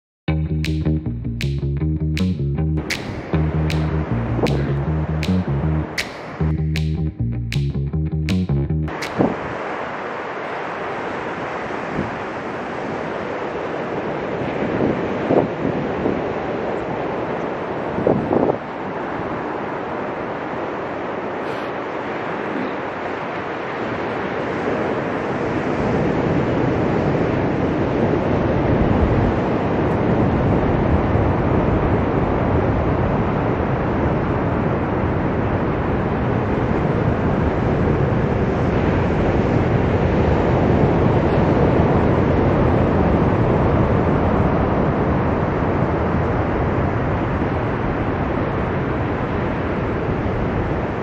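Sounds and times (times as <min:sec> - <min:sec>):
ocean waves breaking on beach: 0:08.9 - 0:51.0.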